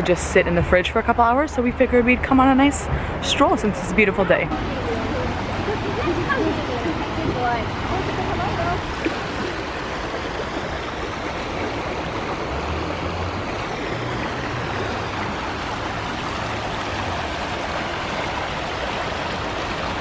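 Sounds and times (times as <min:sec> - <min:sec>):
creek rushing over rocks: 0:02.6 - 0:20.0.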